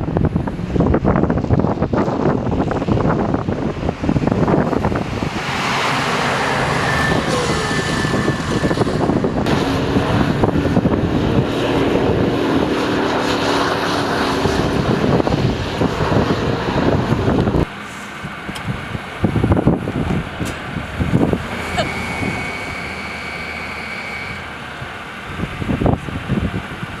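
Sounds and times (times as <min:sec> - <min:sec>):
vehicle engine: 0:00.0 - 0:26.5
tyres on snowy road: 0:00.0 - 0:27.0
wind blowing on microphone: 0:00.0 - 0:27.0.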